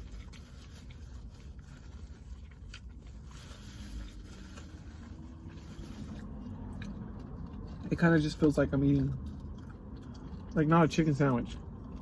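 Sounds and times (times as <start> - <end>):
low steady hum: 0.0 - 12.0
person chewing: 0.0 - 12.0.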